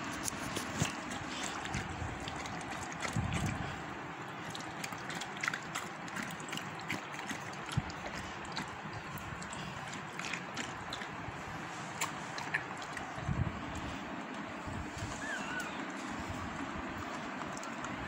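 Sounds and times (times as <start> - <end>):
dog licking puppy wetly: 0.0 - 18.0.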